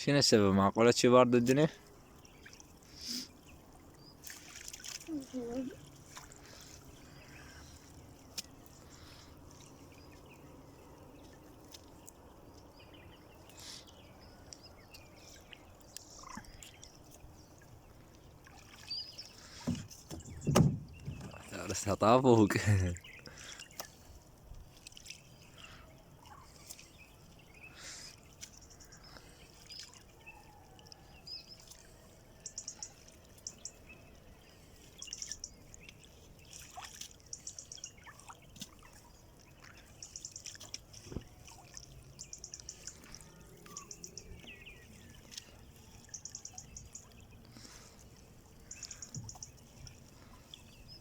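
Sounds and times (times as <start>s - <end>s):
faint trickling water: 0.0s - 51.0s
birds trilling and chirping: 1.1s - 51.0s.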